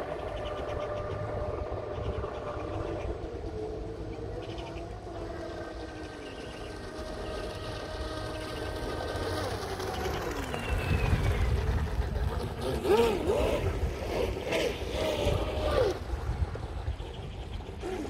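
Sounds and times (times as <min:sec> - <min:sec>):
model boat motors whining: 0:00.0 - 0:18.0
wind rumbling on microphone: 0:00.0 - 0:18.0.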